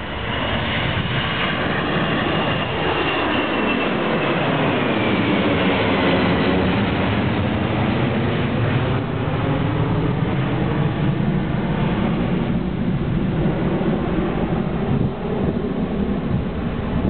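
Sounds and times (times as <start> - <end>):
jet airliner climbing: 0.0 - 17.0.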